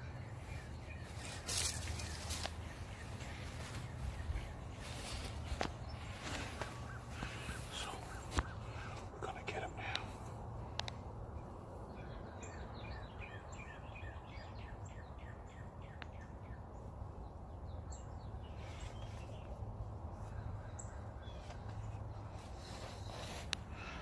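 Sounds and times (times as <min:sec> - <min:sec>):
small bird singing: 0:00.0 - 0:23.4.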